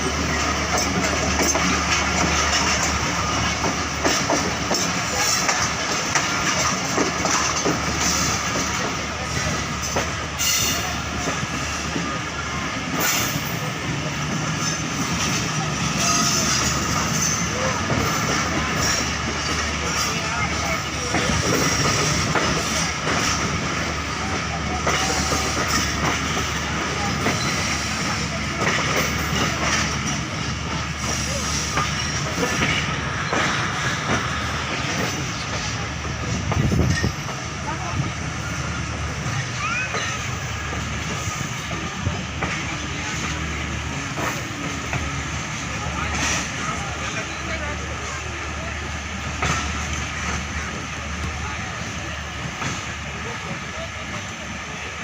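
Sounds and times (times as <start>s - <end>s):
clacks and knocks of train: 0.0s - 55.0s
train wheels rumbling on track: 0.0s - 55.0s.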